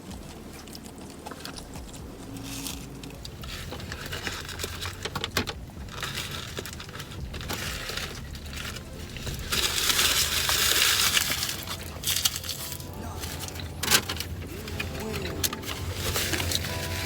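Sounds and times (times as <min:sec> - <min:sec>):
paper wrappers rustling and crinkling: 0:00.0 - 0:17.0.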